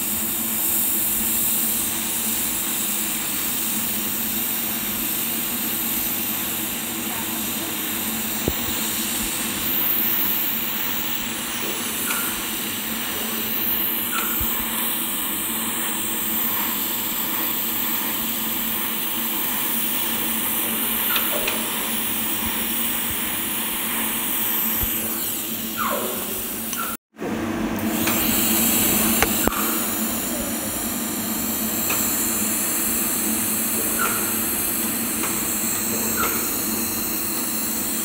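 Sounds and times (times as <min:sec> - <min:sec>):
welding arc hissing: 0:00.0 - 0:27.0, 0:27.8 - 0:38.0.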